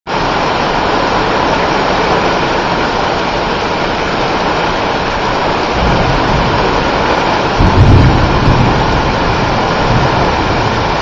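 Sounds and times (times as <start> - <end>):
heavy rain splashing into puddles: 0.1 - 11.0.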